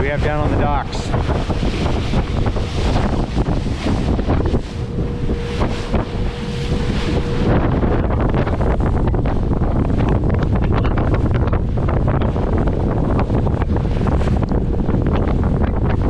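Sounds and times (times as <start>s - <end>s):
water rushing along boat hull: 0.0s - 16.0s
wind buffeting microphone: 0.0s - 16.0s.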